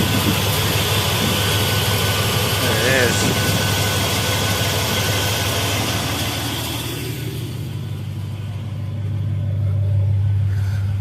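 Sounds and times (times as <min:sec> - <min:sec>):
engine running with low hum: 0:00.0 - 0:11.0.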